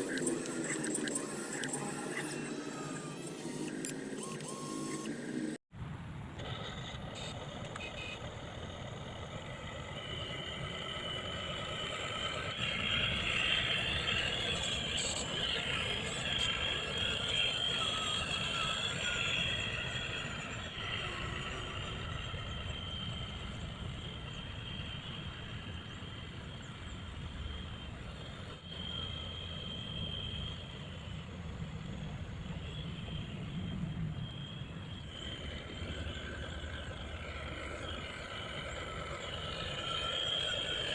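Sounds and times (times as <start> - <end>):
model vehicle motors whining: 0.0 - 5.6, 6.4 - 40.9.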